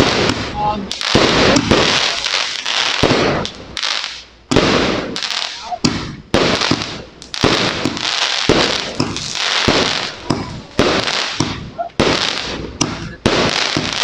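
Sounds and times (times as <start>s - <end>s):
fireworks banging: 0.0s - 14.0s
fireworks popping and crackling: 0.0s - 14.0s.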